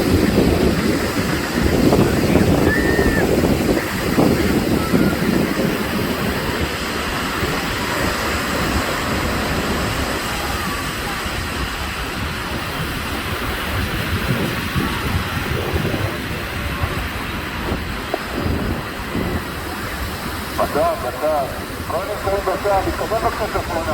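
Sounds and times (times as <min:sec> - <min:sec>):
surf washing onto beach: 0:00.0 - 0:23.9.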